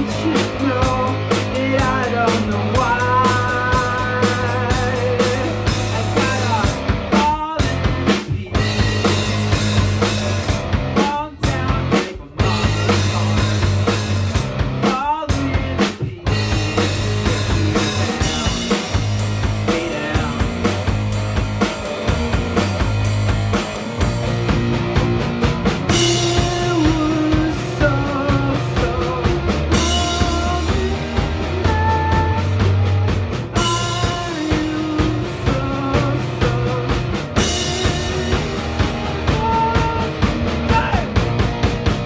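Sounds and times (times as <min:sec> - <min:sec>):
bass line: 0:00.0 - 0:42.0
drum kit beat: 0:00.0 - 0:42.0.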